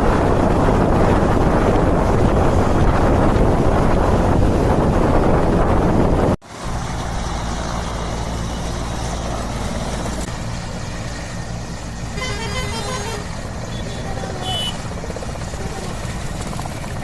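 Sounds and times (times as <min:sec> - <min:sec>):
engine running with low hum: 0:00.0 - 0:17.0
wind buffeting microphone: 0:00.0 - 0:17.0.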